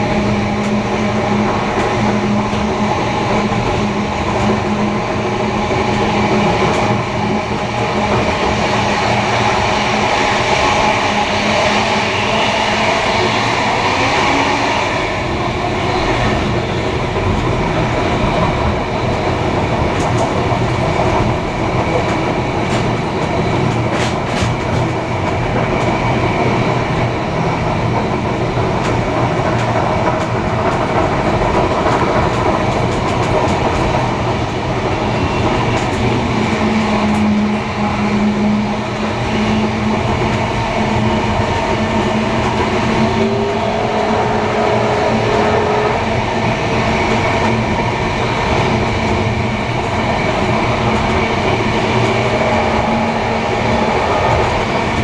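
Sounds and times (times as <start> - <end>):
train rumbling on rails: 0.0 - 55.0
wheels clickety-clack over rail joints: 0.0 - 55.0.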